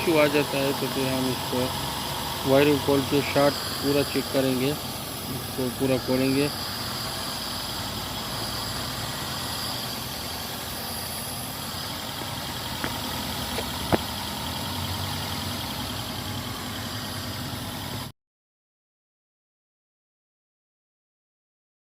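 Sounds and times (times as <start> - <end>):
petrol engine idling: 0.0 - 18.1.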